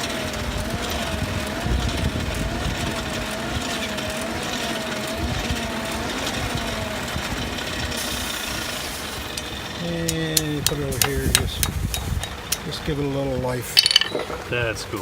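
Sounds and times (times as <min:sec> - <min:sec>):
forge blower whining: 0:00.0 - 0:15.0.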